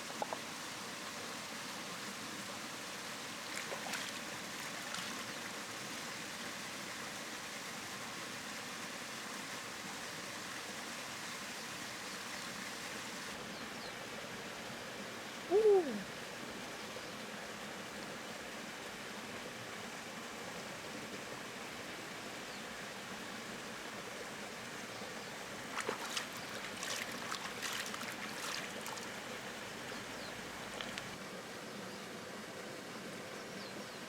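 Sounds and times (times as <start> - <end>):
flowing river water: 0.0 - 33.9.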